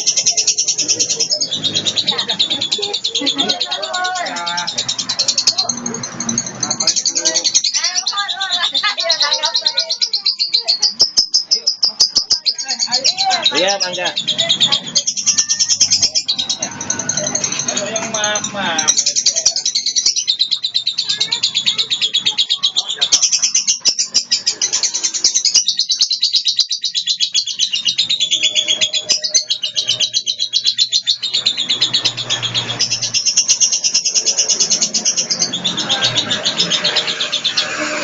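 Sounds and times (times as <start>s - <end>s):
lovebird chattering trill: 0.0s - 38.0s.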